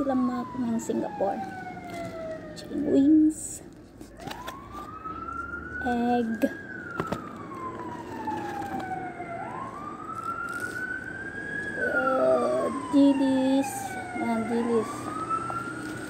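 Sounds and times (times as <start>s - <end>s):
wail siren: 0.0s - 16.0s.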